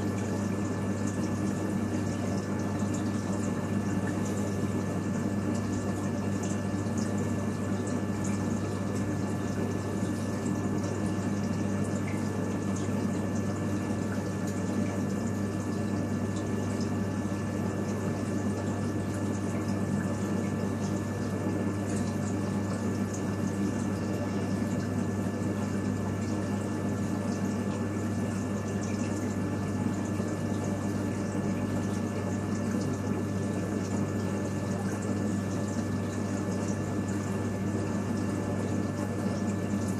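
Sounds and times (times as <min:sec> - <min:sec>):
aquarium pump hum: 0:00.0 - 0:39.9
water trickling: 0:00.0 - 0:39.9.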